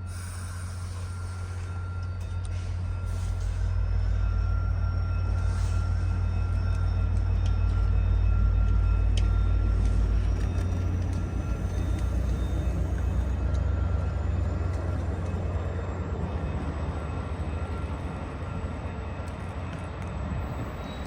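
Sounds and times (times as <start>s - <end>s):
diesel locomotive droning: 0.0s - 21.0s
faint high whine: 0.0s - 21.0s.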